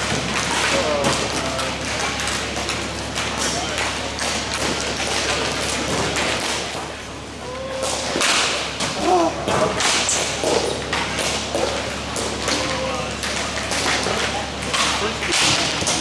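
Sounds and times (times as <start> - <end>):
hockey sticks slapping ball: 0.0 - 16.0.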